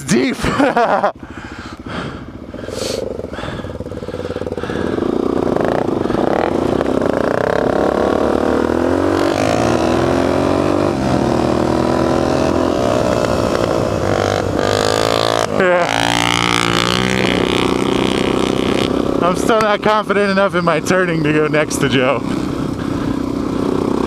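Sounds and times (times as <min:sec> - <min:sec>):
dirt bike engine accelerating: 0:00.4 - 0:24.0.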